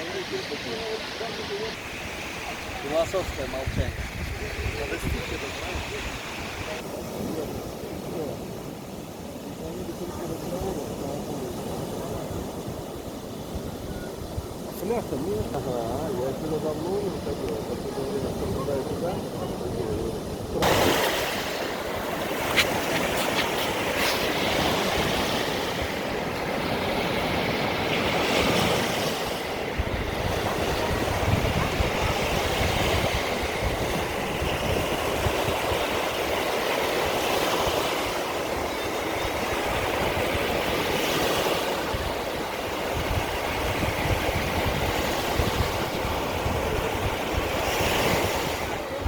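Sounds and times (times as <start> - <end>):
surf washing onto shore: 0.0 - 49.0
wind rumbling on microphone: 0.0 - 49.0.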